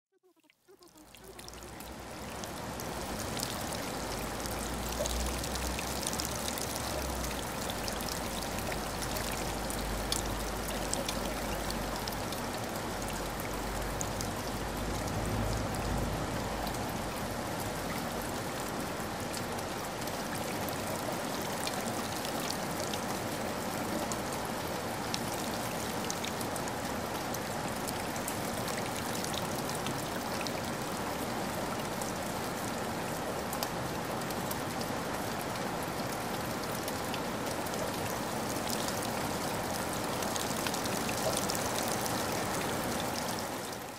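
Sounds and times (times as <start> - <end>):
faint drip-like ticks: 0.3 - 43.9
rushing water: 0.7 - 43.9.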